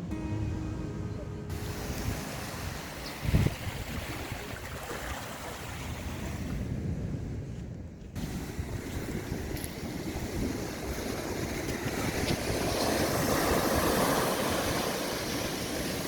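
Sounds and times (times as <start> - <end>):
wind buffeting microphone: 1.2 - 16.0
surf washing onto beach: 1.5 - 6.7, 8.2 - 16.0.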